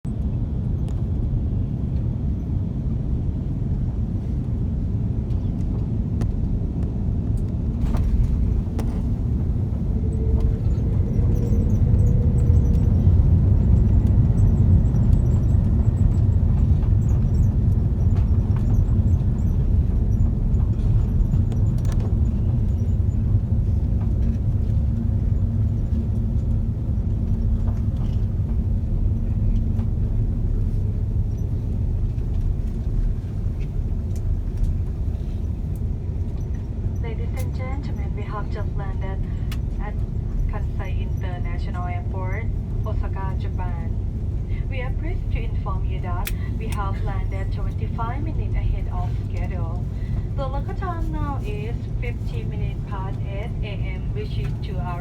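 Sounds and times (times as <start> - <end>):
low rumble of aircraft cabin: 0.0 - 55.0.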